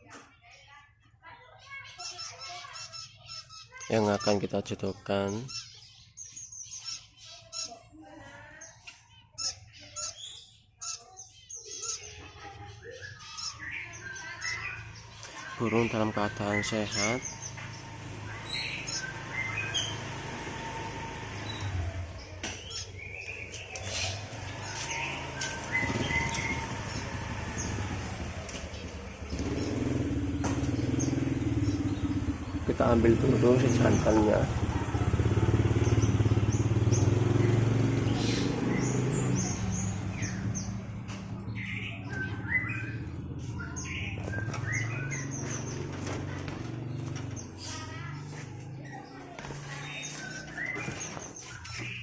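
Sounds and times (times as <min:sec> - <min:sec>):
small cage birds chirping: 0:00.0 - 0:52.0.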